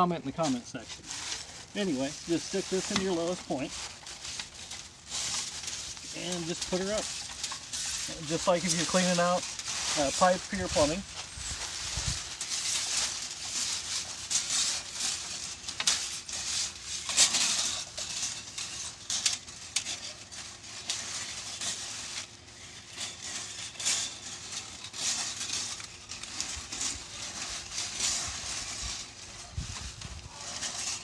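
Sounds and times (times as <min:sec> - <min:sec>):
cable scraping and rattling in flue: 0:00.0 - 0:31.0.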